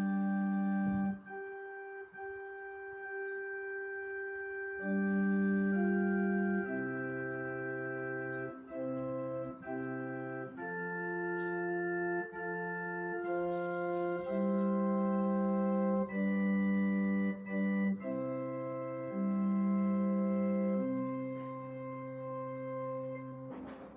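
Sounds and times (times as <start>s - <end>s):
organ keyboard chords: 0.0s - 23.9s.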